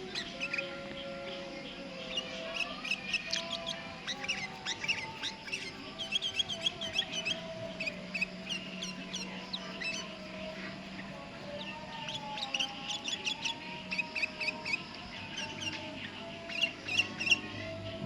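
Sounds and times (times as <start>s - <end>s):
bulbuls chirping: 0.0s - 17.8s.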